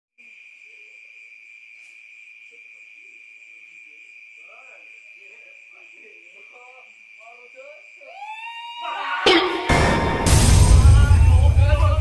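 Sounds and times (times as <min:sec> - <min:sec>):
crickets chirping: 0:00.2 - 0:12.0.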